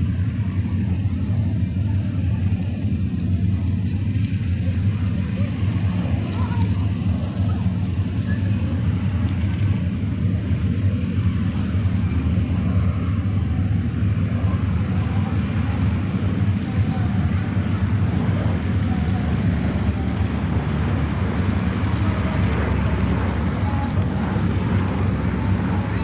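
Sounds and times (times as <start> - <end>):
turboprop aircraft droning: 0.0 - 26.0.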